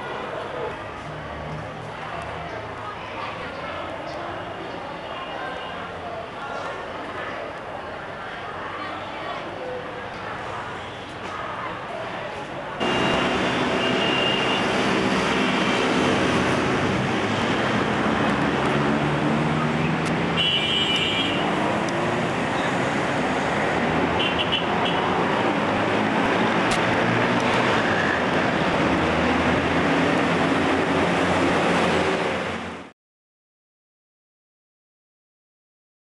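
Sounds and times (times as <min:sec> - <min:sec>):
road traffic: 0:00.0 - 0:32.9.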